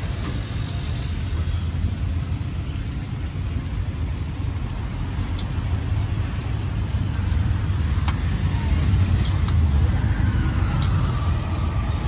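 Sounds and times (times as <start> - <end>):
rumble of passing vehicles: 0.0 - 12.0.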